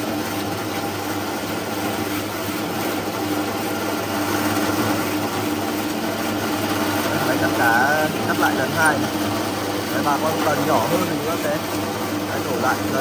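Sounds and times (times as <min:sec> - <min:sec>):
fish slicing machine running: 0:00.0 - 0:13.0.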